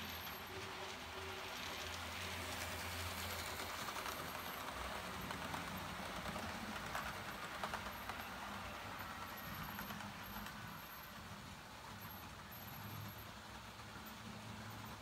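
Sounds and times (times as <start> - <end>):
model train rolling on track: 0.0 - 15.0
wheels clicking over rail joints: 0.0 - 15.0.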